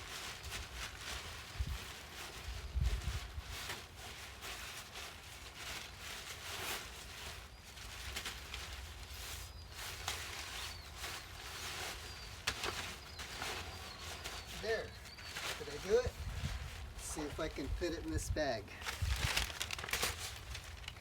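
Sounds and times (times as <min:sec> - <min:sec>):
tent fabric rustling: 0:00.0 - 0:21.0.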